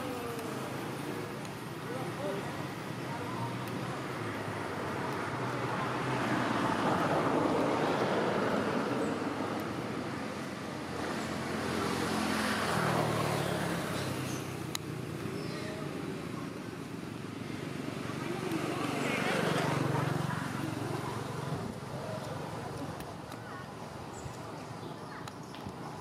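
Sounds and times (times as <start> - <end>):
vehicles passing on a road: 0.0 - 26.0.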